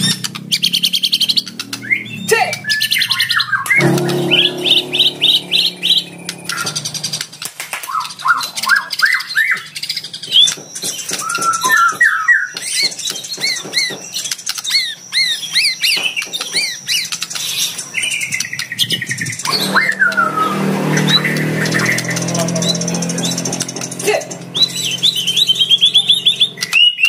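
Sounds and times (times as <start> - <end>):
songbird singing whistles and clicks: 0.0 - 3.8, 6.3 - 27.0.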